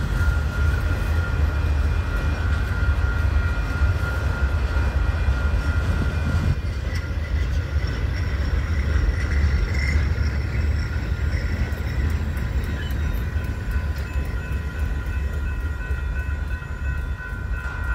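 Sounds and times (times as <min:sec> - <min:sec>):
train wheels rumbling on rail: 0:00.0 - 0:17.9.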